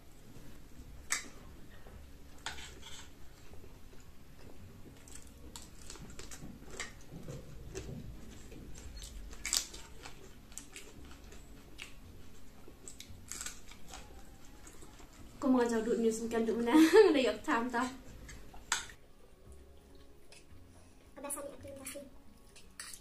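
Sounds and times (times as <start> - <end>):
people chewing food: 0.0 - 23.0.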